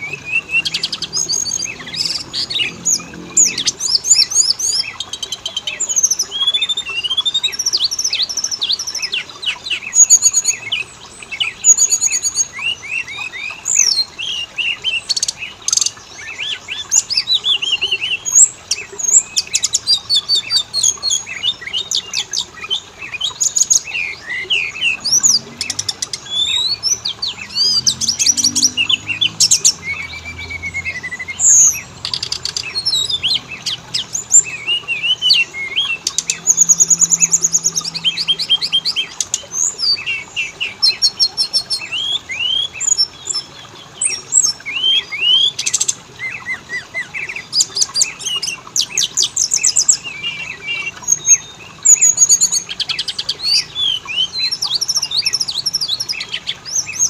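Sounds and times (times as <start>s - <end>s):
songbird whistles and trills: 0.0s - 57.0s.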